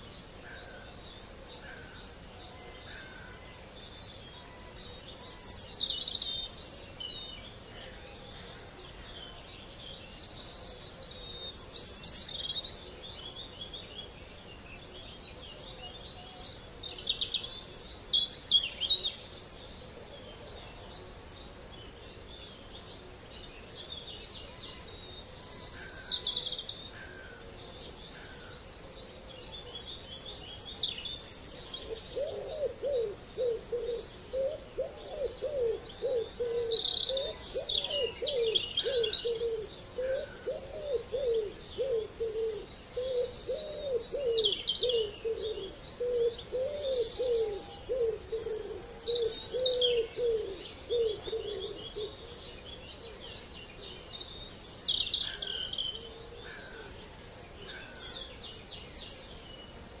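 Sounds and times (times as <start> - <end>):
low repeated bird call: 0.0 - 60.0
songbirds chirping and whistling: 0.0 - 60.0.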